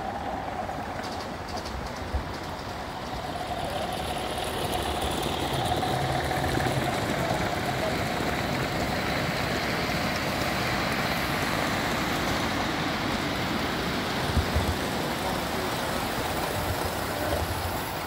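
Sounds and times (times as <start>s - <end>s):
model train wheels rumbling on rail: 0.0s - 18.0s.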